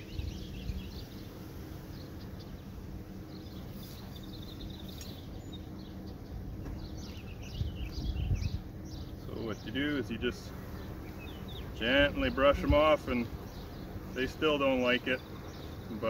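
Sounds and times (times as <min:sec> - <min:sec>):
bees buzzing: 0:00.0 - 0:16.0
birds chirping and singing: 0:00.0 - 0:16.0.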